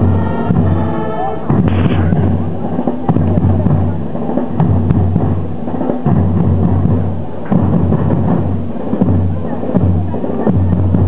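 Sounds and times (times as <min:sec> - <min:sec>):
drums beating: 0:00.0 - 0:11.0
marching band playing: 0:00.0 - 0:11.0.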